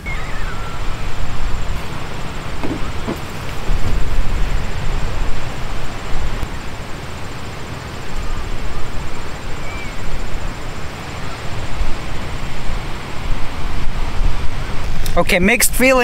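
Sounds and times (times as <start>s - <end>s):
wind blowing on microphone: 0.0s - 16.0s.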